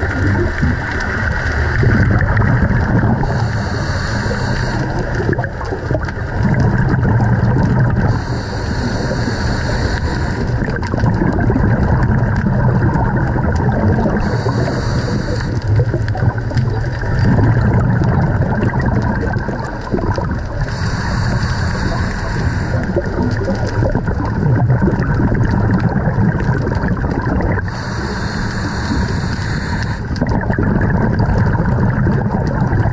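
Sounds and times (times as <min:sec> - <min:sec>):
steady low rumble: 0:00.0 - 0:32.9
underwater exhaled bubbles: 0:00.0 - 0:32.9.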